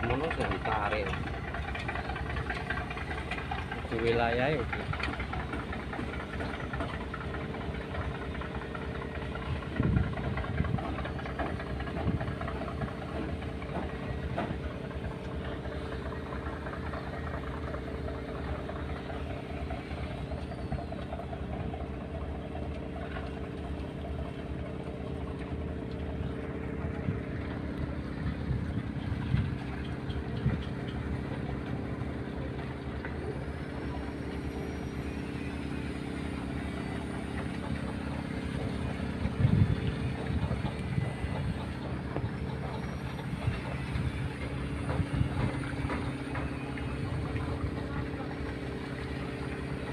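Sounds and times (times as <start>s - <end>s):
diesel engine droning: 0.0s - 49.9s
engine knocks: 0.0s - 49.9s.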